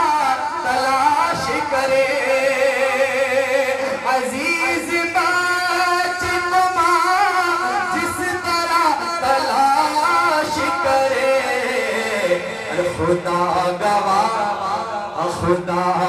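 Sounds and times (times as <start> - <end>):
man singing melismatic notes: 0.0 - 16.0.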